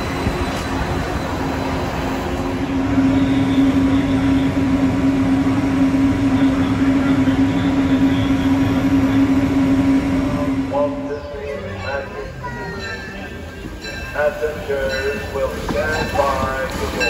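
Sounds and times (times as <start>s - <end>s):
monorail electric hum: 0.0s - 17.0s.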